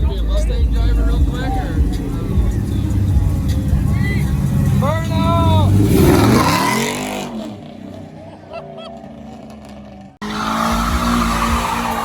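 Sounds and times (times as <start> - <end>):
engine revving: 0.0 - 12.0
tires squealing: 0.0 - 12.0.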